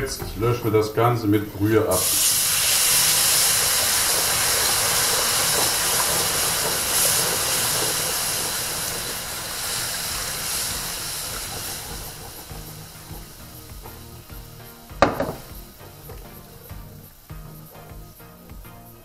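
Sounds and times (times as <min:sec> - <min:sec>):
broth hissing in hot pan: 0:00.0 - 0:19.0.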